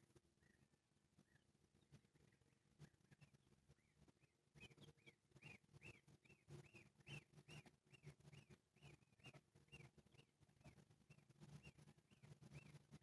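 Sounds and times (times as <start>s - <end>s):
faint bird chirping: 0.4s - 13.0s.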